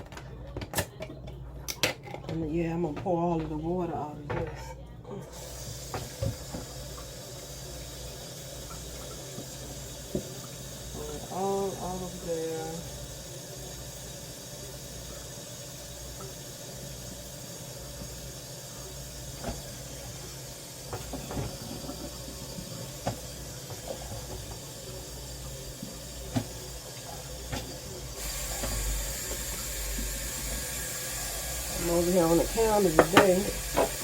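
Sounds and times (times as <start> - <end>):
water running into sink: 5.2 - 34.0.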